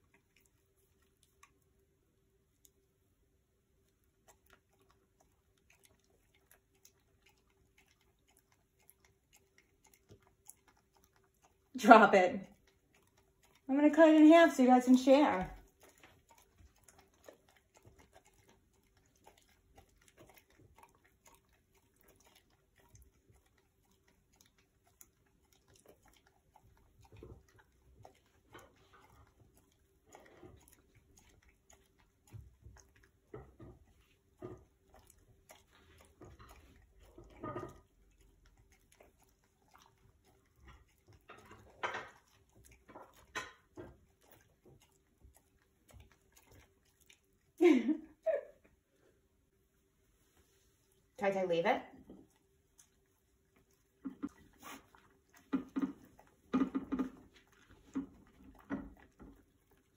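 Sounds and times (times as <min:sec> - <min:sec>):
dog licking and mouth-smacking: 0:00.0 - 0:59.9.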